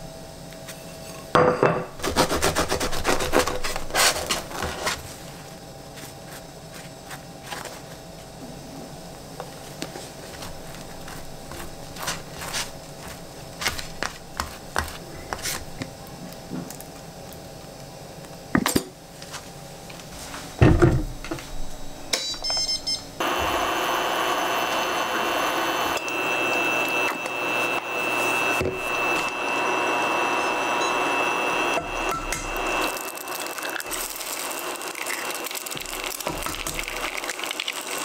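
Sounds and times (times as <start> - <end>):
cooktop whirr with high whine: 0.0 - 38.0.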